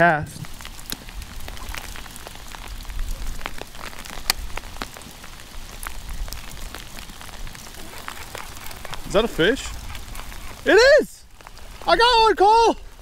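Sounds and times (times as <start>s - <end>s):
rain hissing: 0.0s - 13.0s
hailstones ticking on boat: 0.4s - 13.0s.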